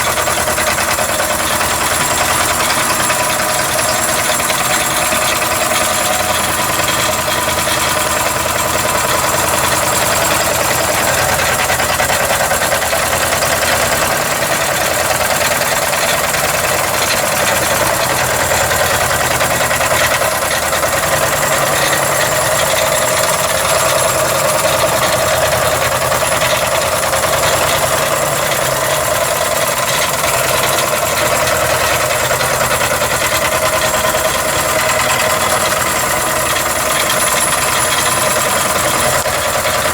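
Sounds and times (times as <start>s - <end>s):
hissing exhaust: 0.0s - 39.9s
model steam engine running: 0.0s - 39.9s.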